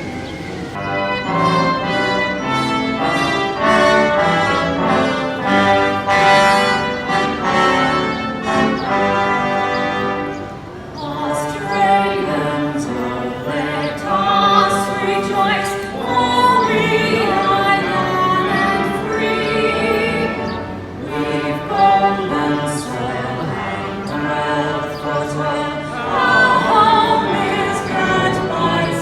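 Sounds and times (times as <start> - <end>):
choir singing held notes: 0.0 - 29.0.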